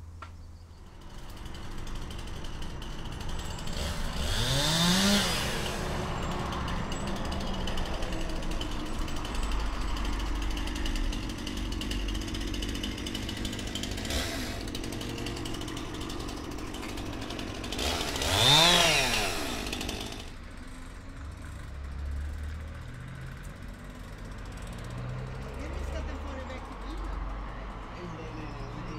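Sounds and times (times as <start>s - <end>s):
chainsaw engine revving: 0.8s - 20.4s, 22.2s - 28.9s.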